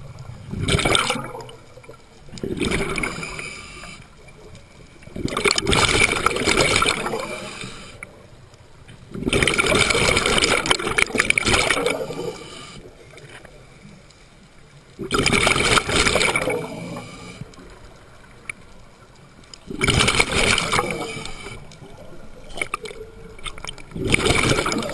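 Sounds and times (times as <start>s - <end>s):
underwater exhaled bubbles gurgling: 0.0s - 24.9s.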